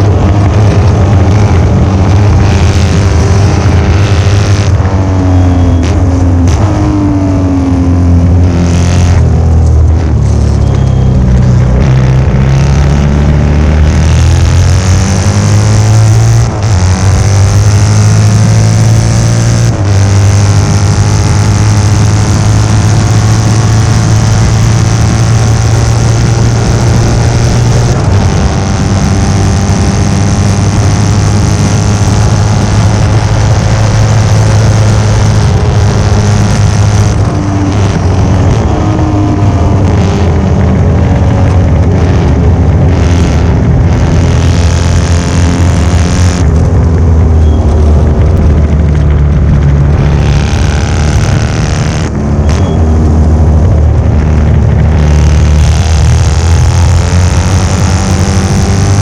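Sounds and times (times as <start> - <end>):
racing engine running hard: 0.0 - 59.0.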